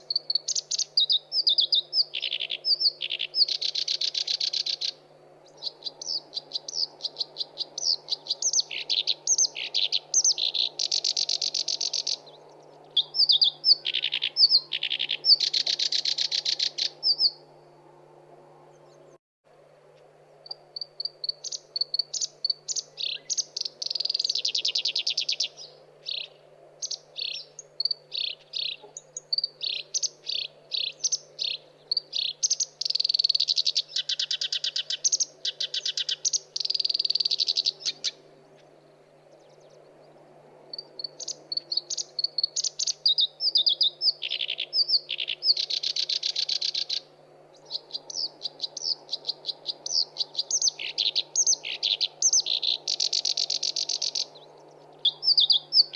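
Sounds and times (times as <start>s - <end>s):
warbler singing: 0.0s - 17.8s, 20.4s - 55.9s
faint steady hum: 0.0s - 55.9s.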